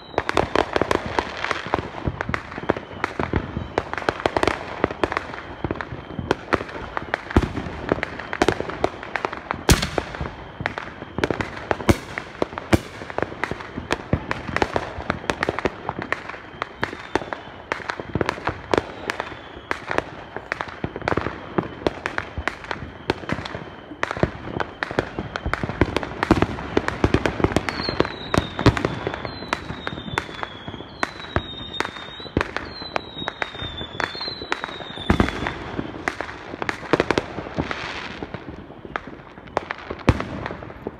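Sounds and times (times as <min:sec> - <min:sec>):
fireworks popping and banging: 0:00.0 - 0:40.9.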